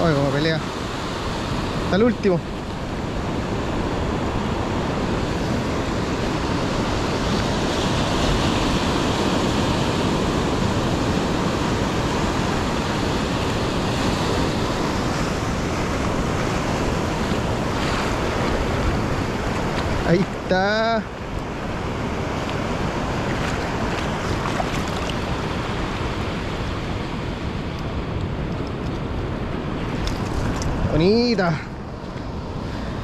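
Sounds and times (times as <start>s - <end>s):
ocean surf breaking: 0.0s - 33.0s
wind on microphone: 0.0s - 33.0s.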